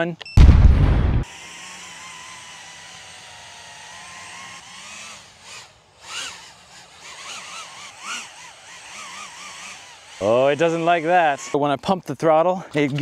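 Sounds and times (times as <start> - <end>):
quadcopter motors whining: 1.2 - 11.8.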